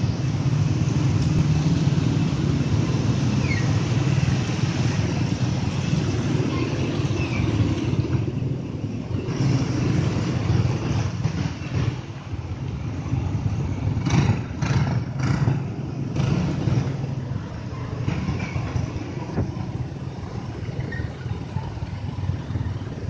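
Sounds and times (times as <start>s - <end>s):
vehicle engines running slowly: 0.0s - 23.0s.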